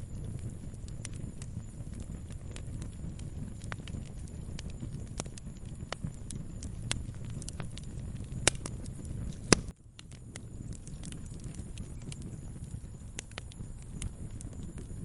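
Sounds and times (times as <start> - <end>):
loud fire pops: 0.0 - 15.0
wood fire crackling: 0.0 - 15.0.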